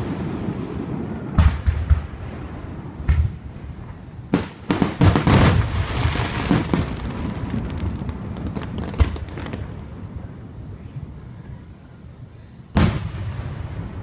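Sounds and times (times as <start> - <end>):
fireworks crackling pops: 0.0 - 11.2, 12.7 - 14.0
fireworks booming: 0.0 - 11.8, 12.6 - 14.0.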